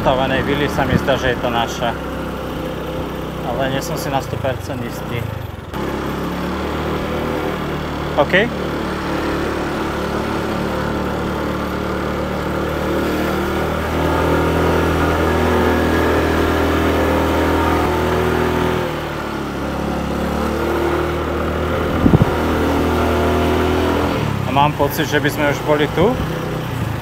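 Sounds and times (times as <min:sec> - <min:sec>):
motorbike engine pulling uphill: 0:00.0 - 0:27.0.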